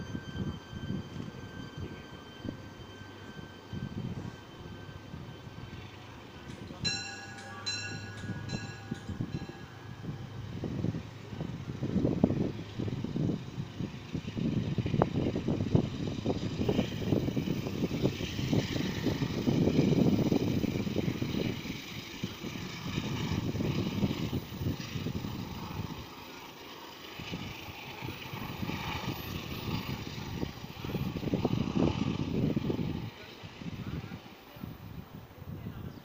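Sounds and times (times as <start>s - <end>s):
wind buffeting microphone: 0.0s - 26.4s, 27.0s - 36.0s
train running on tracks: 0.0s - 36.0s.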